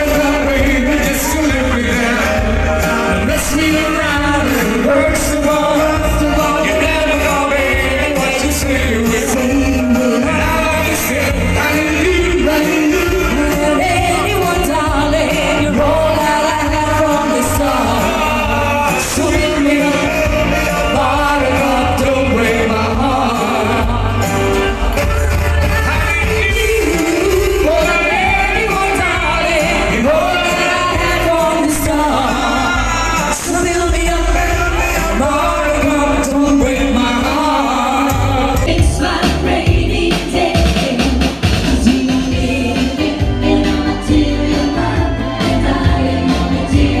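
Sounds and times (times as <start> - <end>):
live band playing: 0.0 - 47.0
person singing: 0.0 - 47.0
strong bass: 0.0 - 47.0.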